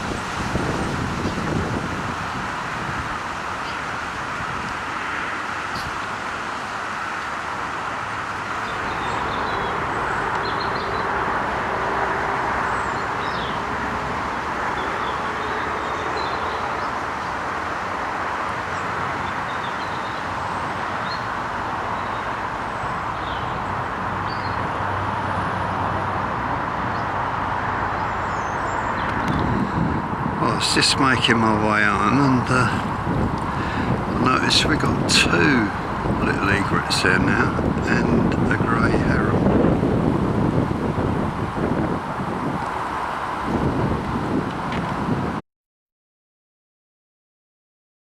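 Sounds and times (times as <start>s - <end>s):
distant road traffic hum: 0.0s - 45.4s.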